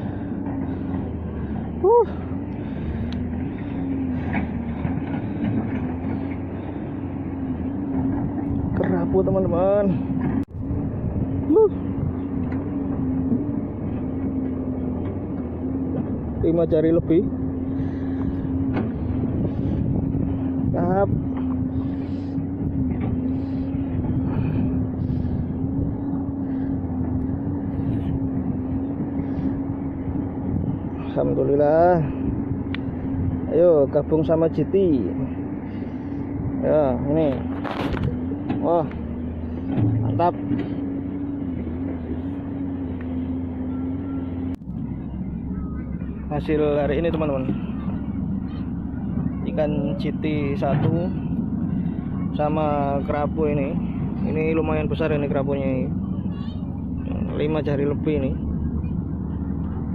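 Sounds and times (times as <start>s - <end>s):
low wavering drone: 0.0s - 59.9s
wind: 0.0s - 59.9s.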